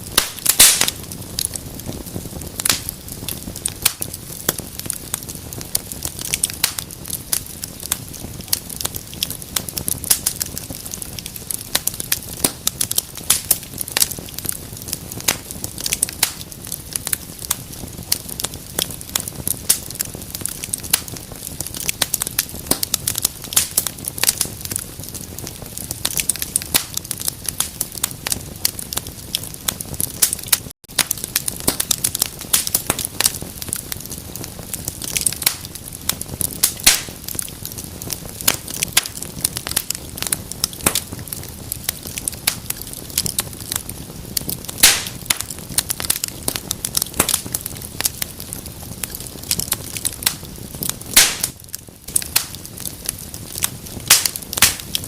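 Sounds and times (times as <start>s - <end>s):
low hiss of fire: 0.0s - 55.0s
wood fire crackling and popping: 0.0s - 55.0s.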